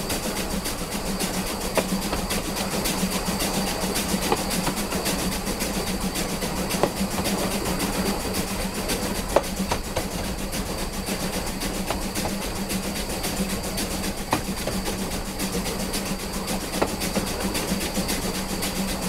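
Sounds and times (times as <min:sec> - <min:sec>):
steam train running on track: 0:00.0 - 0:19.0
wheel-on-rail clicks: 0:00.0 - 0:19.0.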